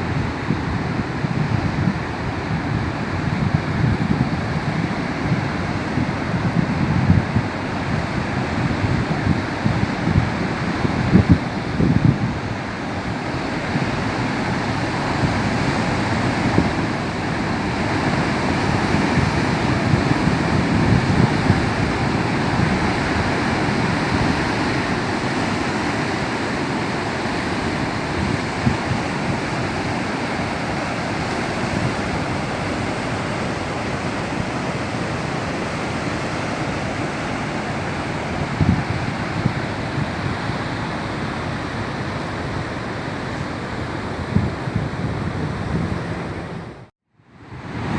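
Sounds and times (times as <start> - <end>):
waves breaking: 0.0 - 46.9
wind buffeting microphone: 0.0 - 46.9.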